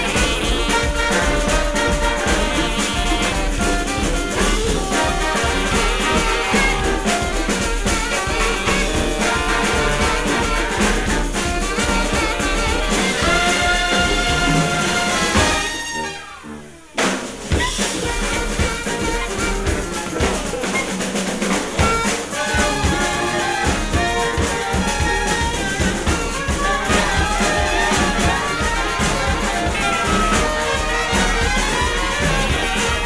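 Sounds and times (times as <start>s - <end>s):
snare and bass drumming: 0.0s - 16.3s, 17.0s - 33.0s
brass horns playing a tune: 0.0s - 33.0s.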